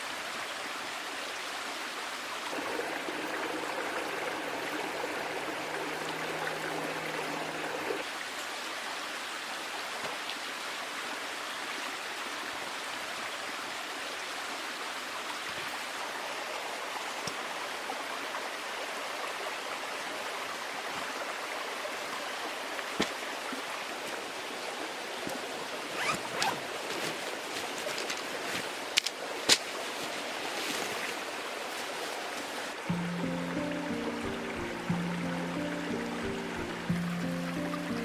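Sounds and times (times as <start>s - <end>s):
small stream flowing: 0.0s - 38.0s.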